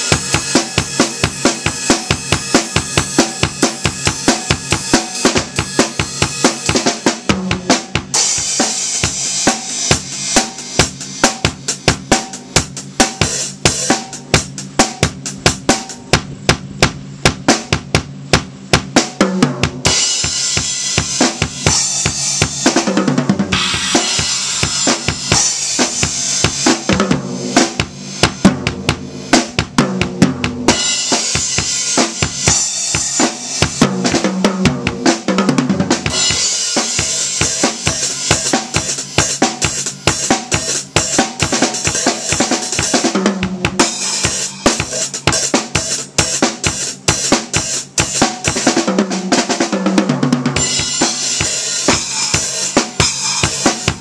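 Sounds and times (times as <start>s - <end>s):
loud cymbal wash: 0.0s - 16.5s, 19.8s - 29.6s, 30.6s - 34.1s, 36.0s - 48.8s, 50.6s - 54.0s
drum kit groove: 0.0s - 54.0s.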